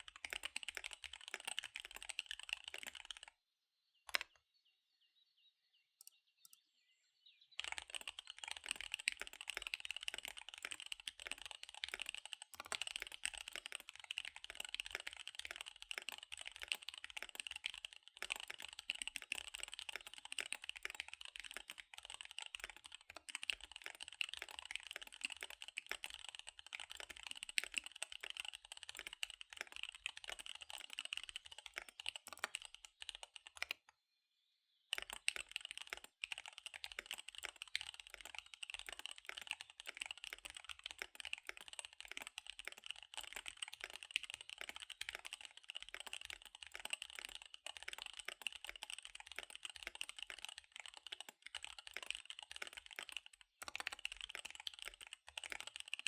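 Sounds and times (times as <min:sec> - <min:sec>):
mechanical keyboard typing: 0:00.0 - 0:03.3, 0:04.1 - 0:04.3, 0:07.6 - 0:33.9, 0:34.9 - 0:56.0.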